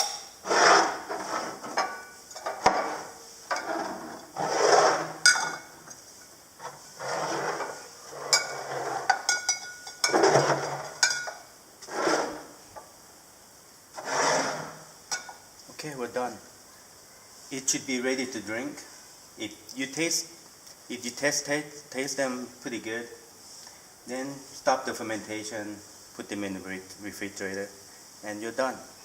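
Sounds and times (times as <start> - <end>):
carbonation gas hissing: 0.0 - 29.0.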